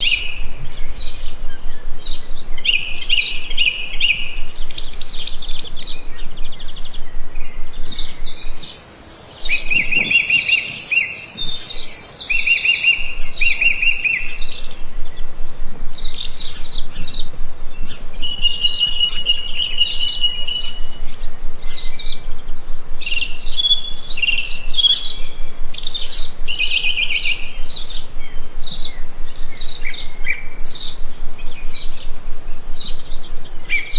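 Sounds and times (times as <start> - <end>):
bird whistle: 0.0 - 33.9
birds chirping and singing: 0.0 - 33.9.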